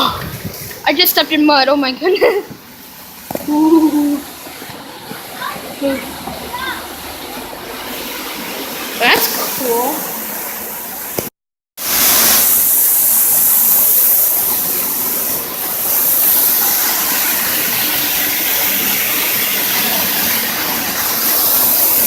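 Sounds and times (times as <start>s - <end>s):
waterfall splashing: 0.0s - 22.0s.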